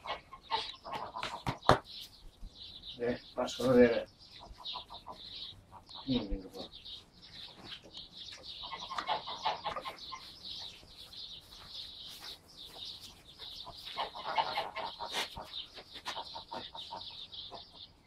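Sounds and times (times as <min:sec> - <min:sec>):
rapid clucking calls: 0:00.0 - 0:02.4, 0:03.0 - 0:18.0
small birds chirping: 0:00.0 - 0:18.0.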